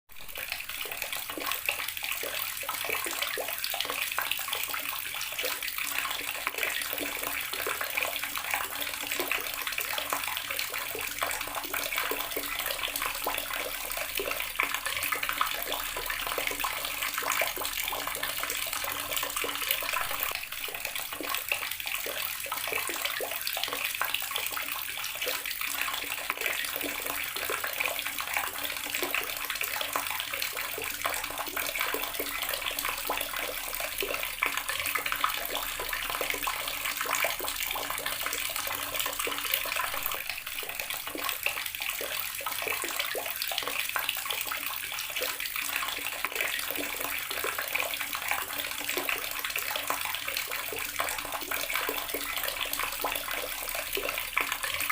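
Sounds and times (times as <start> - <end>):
water running from tap: 0.1 - 54.9.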